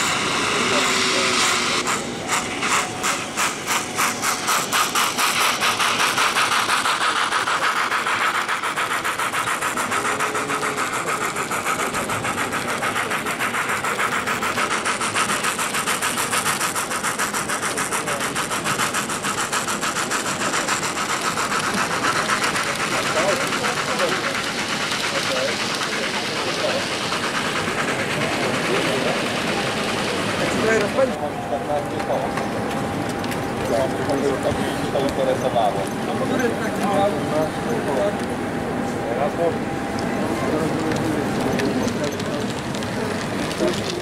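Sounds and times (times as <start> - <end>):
model steam locomotive chuffing: 0.0 - 44.0.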